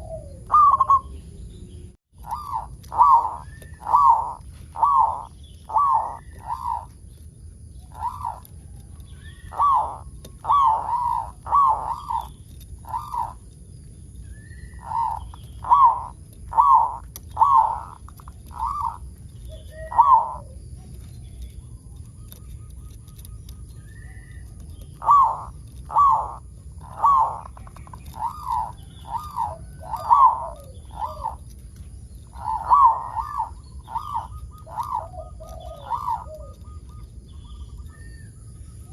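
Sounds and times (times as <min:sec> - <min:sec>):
dove cooing: 0:00.0 - 0:01.3, 0:02.2 - 0:38.9.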